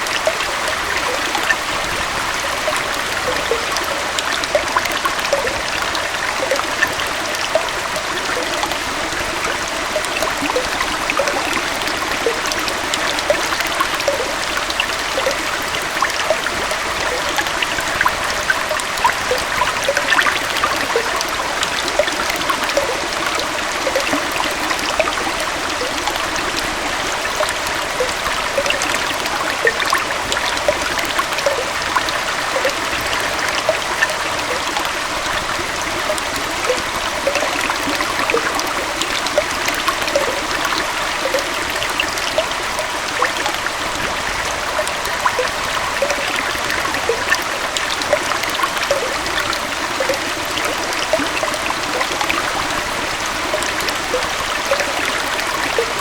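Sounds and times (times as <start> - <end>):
water splashes and gurgles: 0.0 - 56.0.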